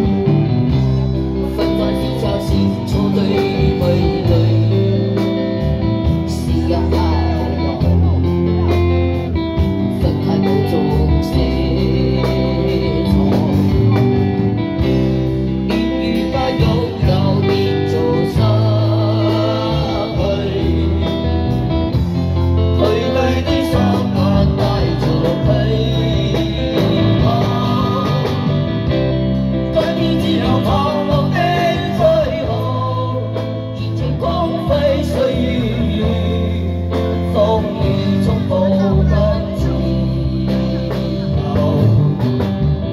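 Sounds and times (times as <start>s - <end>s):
drum kit: 0.0s - 42.9s
electric guitar: 0.0s - 42.9s
man singing into a microphone: 1.0s - 42.5s.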